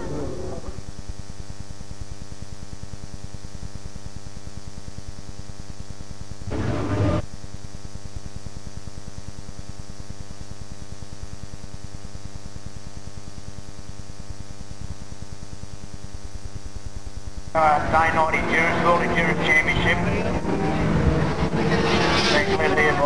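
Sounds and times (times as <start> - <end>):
pulsing electrical buzzing hum: 0.0 - 23.0.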